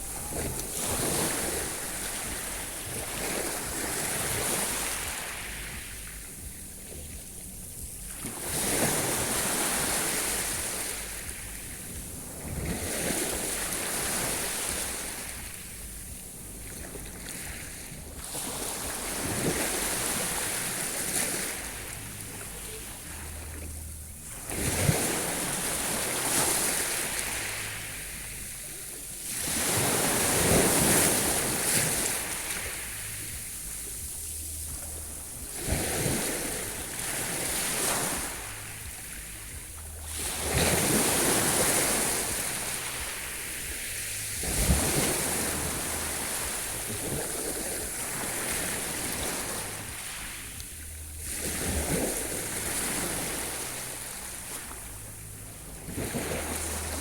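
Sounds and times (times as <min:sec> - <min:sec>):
sea waves breaking on shore: 0:00.0 - 0:57.0
wind on microphone: 0:00.0 - 0:57.0.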